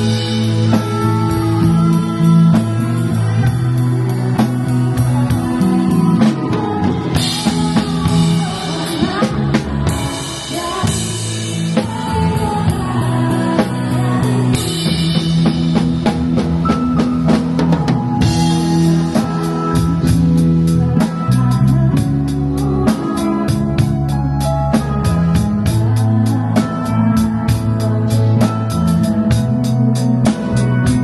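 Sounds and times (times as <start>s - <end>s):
drum kit: 0.0s - 31.0s
rock band playing: 0.0s - 31.0s.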